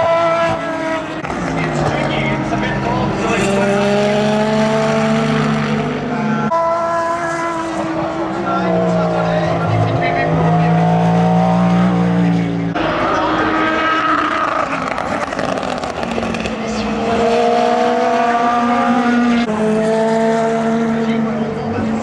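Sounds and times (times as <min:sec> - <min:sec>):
race car engines: 0:00.0 - 0:22.0.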